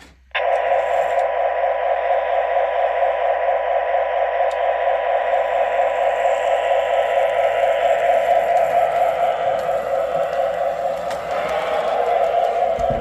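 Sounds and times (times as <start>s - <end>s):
tinny model engine drone: 0.4s - 13.0s.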